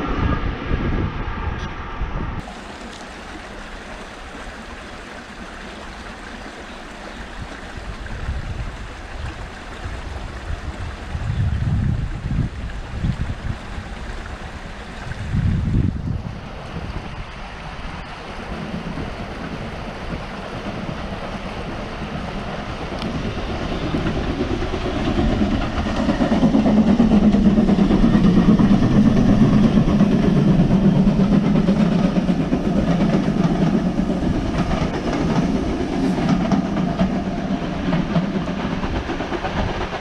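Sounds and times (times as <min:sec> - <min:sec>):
steam train passing: 0:00.0 - 0:40.0.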